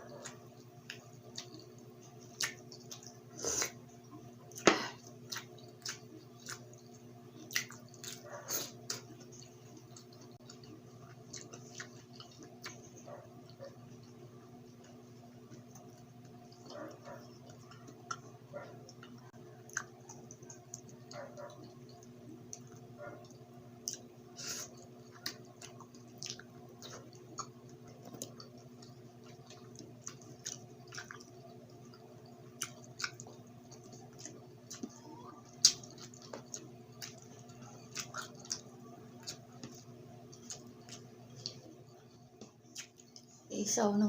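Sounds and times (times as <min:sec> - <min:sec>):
person chewing food: 0:00.0 - 0:43.5
steady low hum: 0:00.0 - 0:44.0.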